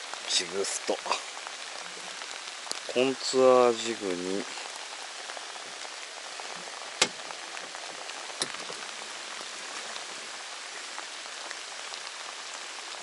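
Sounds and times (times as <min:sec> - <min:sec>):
steady rain patter: 0:00.0 - 0:13.0.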